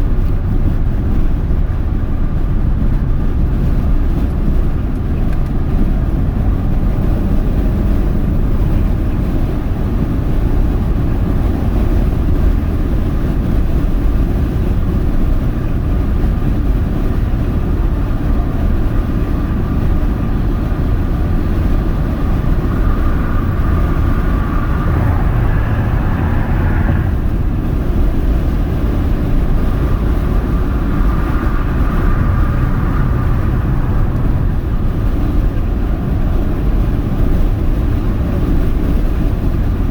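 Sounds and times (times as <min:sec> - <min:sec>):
car engine: 0:00.0 - 0:39.9
wind and road noise rumble: 0:00.0 - 0:39.9.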